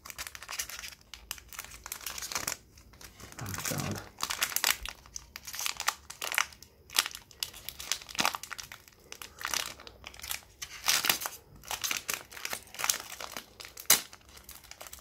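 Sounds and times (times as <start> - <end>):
foil wrapper crinkling and tearing: 0.0 - 15.0.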